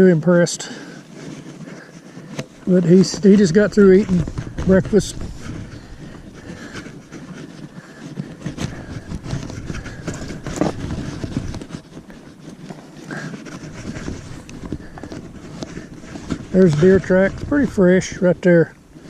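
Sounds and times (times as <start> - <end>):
horse hooves walking: 0.0 - 19.0
small knocks and clatter: 1.2 - 17.8.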